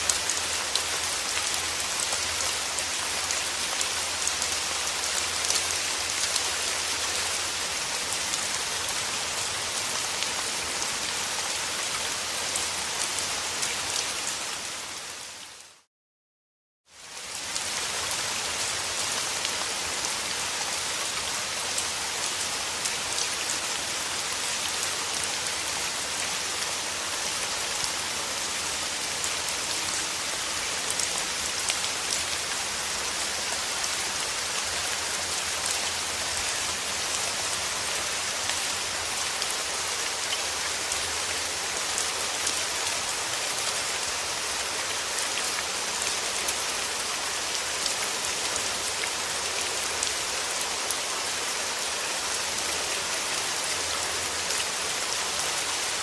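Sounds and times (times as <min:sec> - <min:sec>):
steady rain falling: 0:00.0 - 0:15.9, 0:16.9 - 0:56.0.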